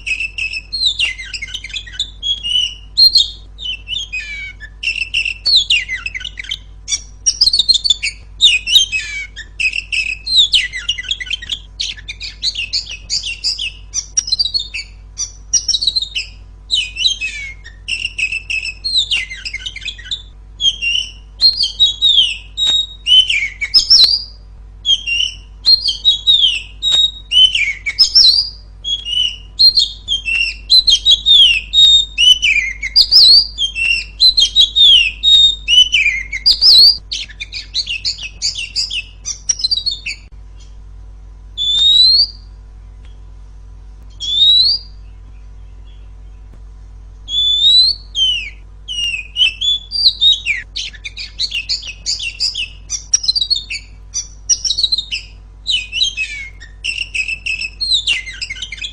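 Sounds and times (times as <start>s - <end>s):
bird singing whistled phrases: 0.0s - 40.8s, 41.6s - 42.6s, 44.1s - 46.5s, 47.3s - 58.9s
faint low hum: 0.0s - 58.9s.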